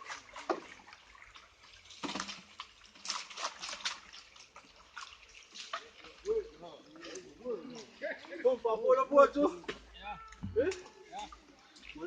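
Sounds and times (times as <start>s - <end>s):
river water splashing around raft: 0.0s - 12.0s.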